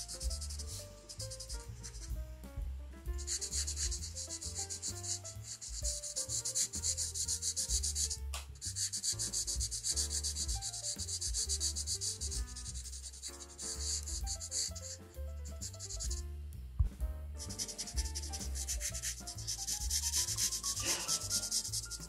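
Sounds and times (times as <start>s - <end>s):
marker scratching on paper: 0.0s - 2.2s, 3.2s - 16.2s, 17.4s - 22.0s.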